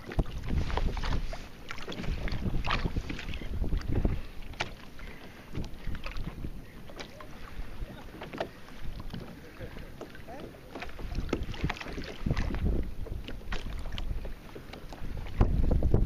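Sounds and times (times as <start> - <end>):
wind rumbling on microphone: 0.0 - 9.8, 10.7 - 16.0
small waves slapping against kayak: 0.0 - 16.0
water splashes: 0.0 - 16.0.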